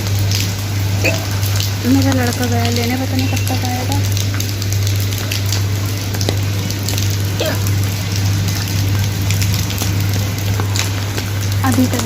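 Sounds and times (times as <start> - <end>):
rain falling: 0.0 - 12.0
raindrops hitting close by: 0.0 - 12.0
steady low hum: 0.0 - 12.0.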